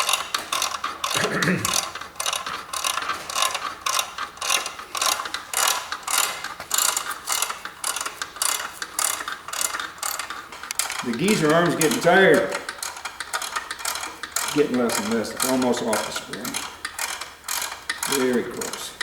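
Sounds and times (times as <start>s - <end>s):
ratcheting wrench clicking: 0.0s - 19.0s.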